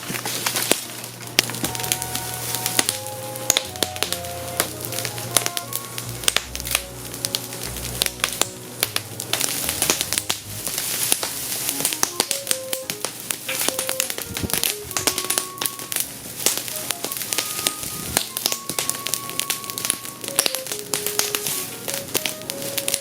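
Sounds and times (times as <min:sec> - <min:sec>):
fire crackling and popping: 0:00.0 - 0:23.0
soft background music: 0:00.0 - 0:23.0.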